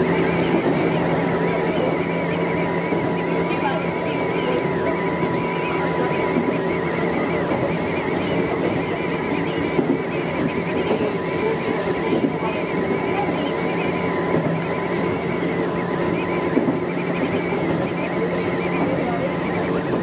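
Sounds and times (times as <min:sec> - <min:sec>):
faint wavering whine: 0:00.0 - 0:20.0
steady high tone: 0:00.0 - 0:20.0
train wheels rumbling on rail: 0:00.0 - 0:20.0.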